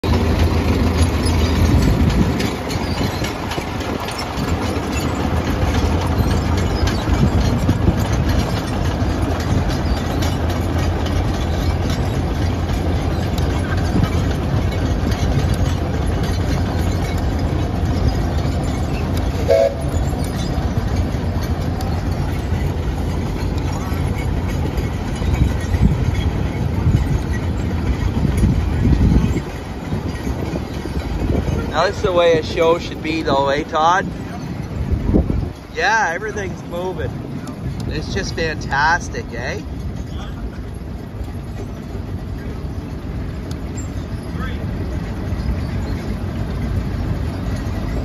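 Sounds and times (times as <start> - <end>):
crawler tracks rattling: 0.0 - 48.0
truck engine running: 0.0 - 48.0.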